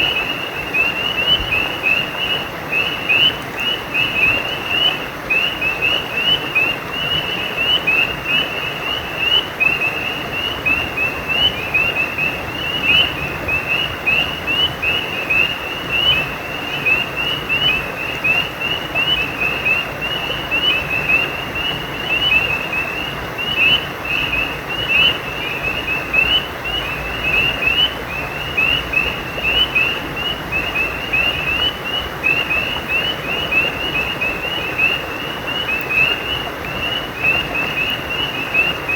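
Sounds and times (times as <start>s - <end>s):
frogs chirping: 0.0s - 38.9s
stream flowing: 0.0s - 38.9s.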